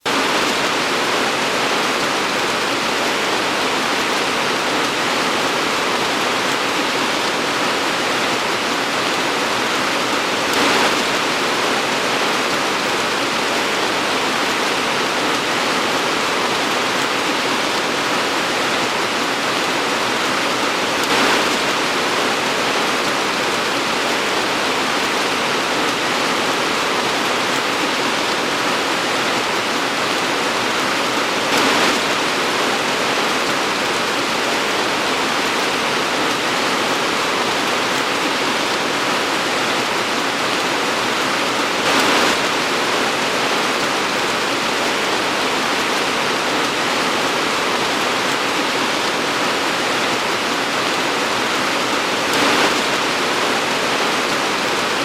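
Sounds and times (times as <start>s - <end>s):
torrential rain pouring: 0.0s - 55.0s.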